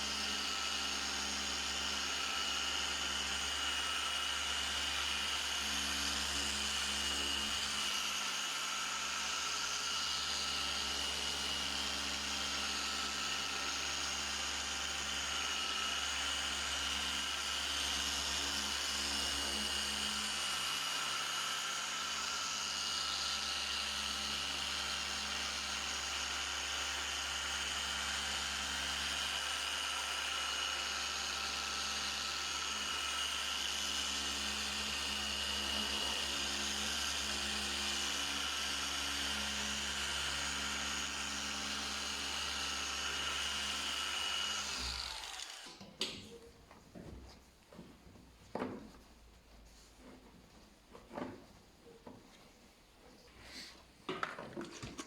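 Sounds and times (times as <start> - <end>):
electric polishing tool whine: 0.0 - 46.2.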